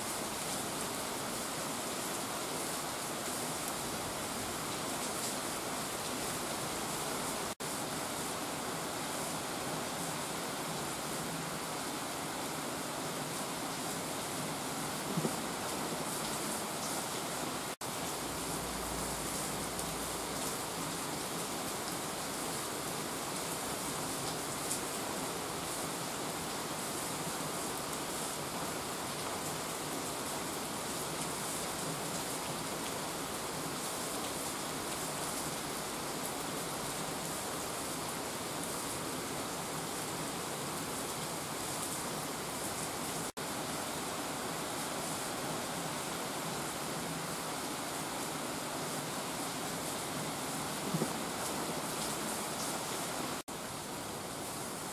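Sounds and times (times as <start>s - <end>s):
heavy rain on asphalt: 0.0s - 54.9s
rainwater running over ground: 0.0s - 54.9s.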